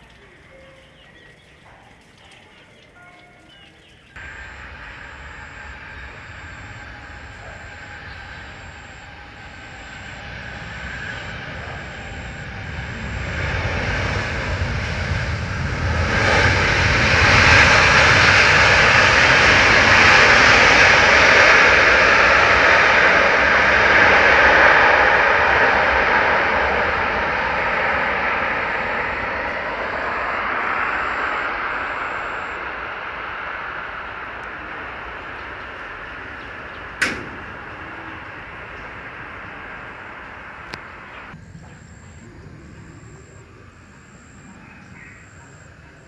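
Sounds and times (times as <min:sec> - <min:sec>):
airplane engines passing: 0:00.0 - 0:46.0.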